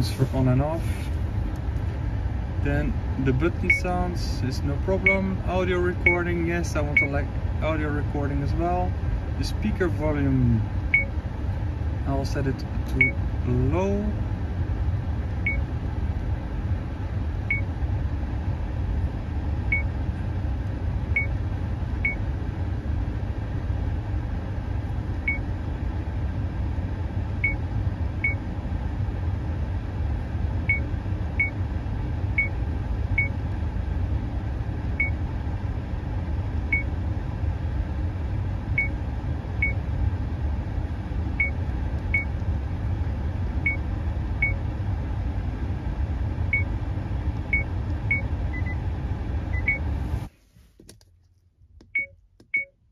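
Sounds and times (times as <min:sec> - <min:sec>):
steady low rumble: 0:00.0 - 0:52.9.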